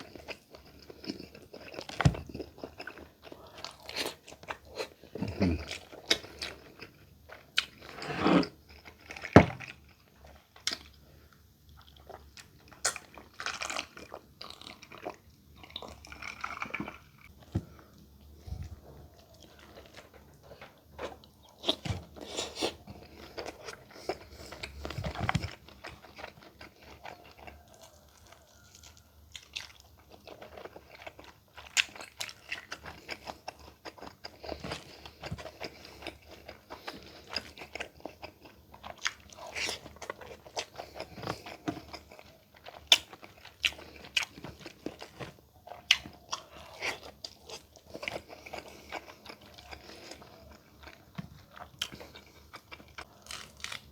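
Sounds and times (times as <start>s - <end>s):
person chewing with crunches: 0.0s - 53.9s.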